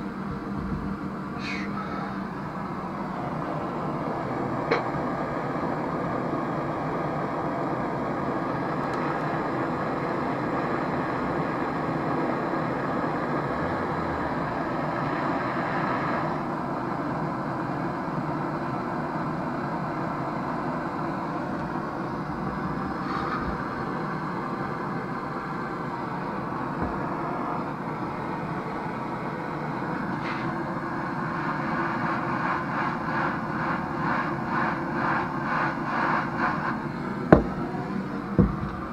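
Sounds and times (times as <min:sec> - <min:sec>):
blowtorch flame hissing: 0:01.1 - 0:18.6, 0:19.8 - 0:38.9.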